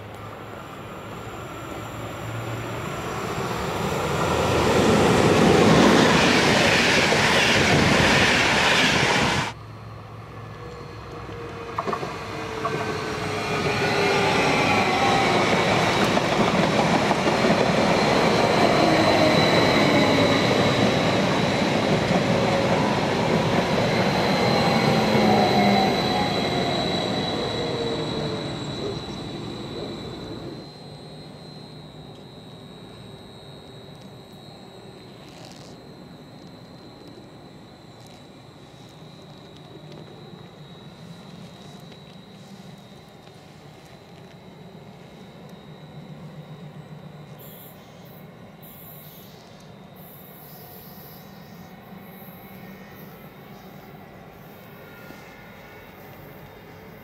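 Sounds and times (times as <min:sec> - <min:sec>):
electric train passing: 0:00.0 - 0:57.0
train high steady whine: 0:00.0 - 0:57.0.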